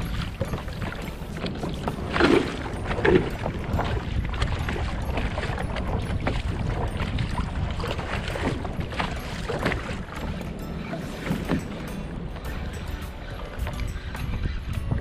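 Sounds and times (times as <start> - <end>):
water slapping against kayak hull: 0.0 - 12.4
wind rumble on microphone: 0.0 - 15.0.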